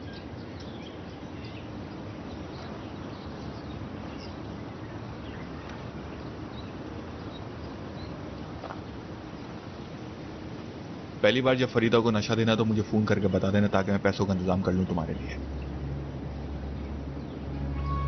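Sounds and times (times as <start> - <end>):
outdoor ambience: 0.0 - 18.0.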